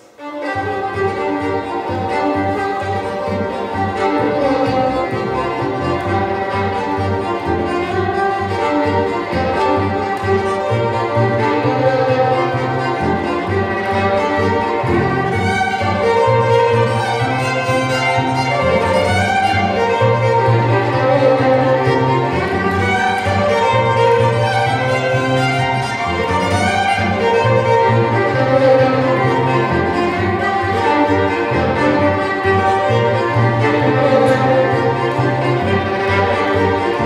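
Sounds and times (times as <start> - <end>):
violin melody: 0.0 - 37.0
double bass line: 0.5 - 37.0.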